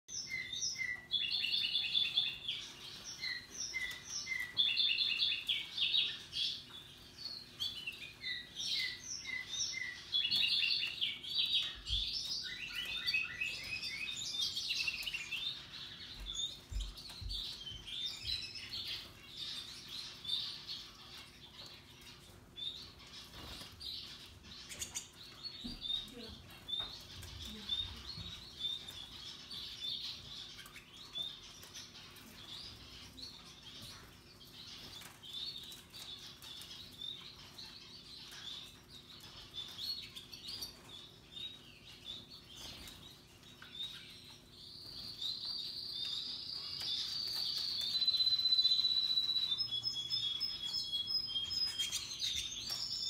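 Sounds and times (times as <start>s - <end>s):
canaries singing: 0.0s - 53.0s.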